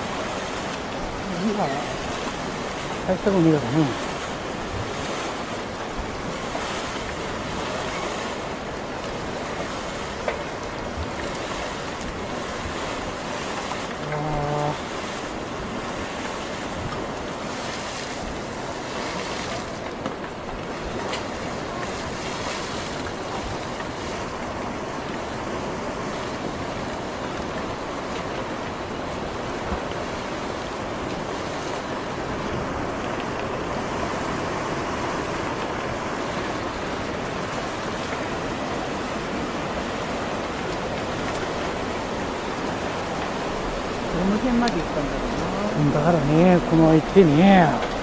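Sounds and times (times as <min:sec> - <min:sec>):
surging water: 0:00.0 - 0:48.0.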